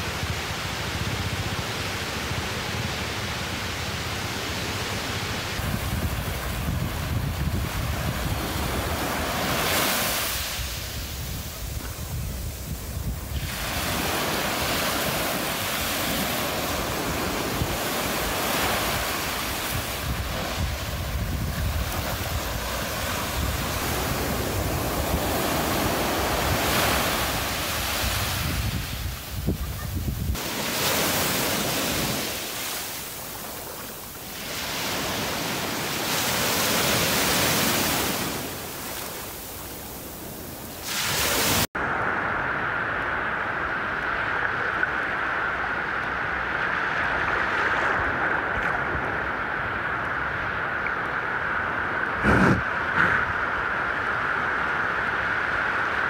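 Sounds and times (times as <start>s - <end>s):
small waves on sandy beach: 0.0s - 56.0s
wind rumble on microphone: 5.4s - 32.5s, 33.2s - 56.0s.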